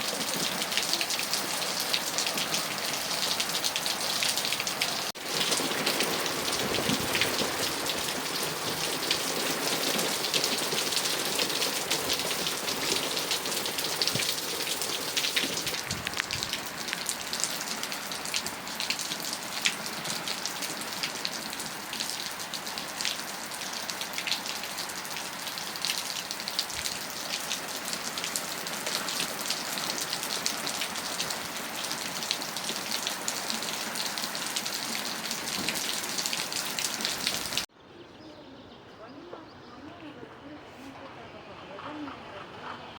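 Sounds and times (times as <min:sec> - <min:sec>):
rain falling: 0:00.0 - 0:37.7.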